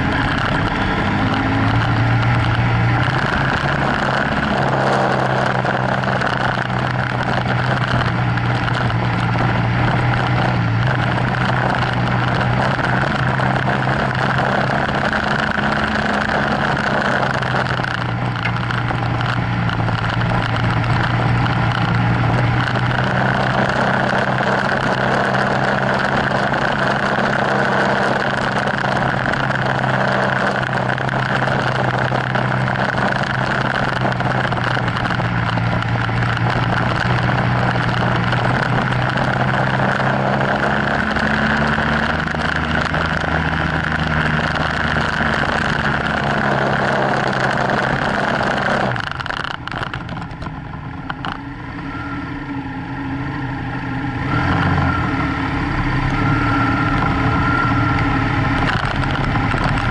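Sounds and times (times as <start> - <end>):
motorcycle engine running: 0.0 - 59.9
tyre and wind noise: 0.0 - 59.9.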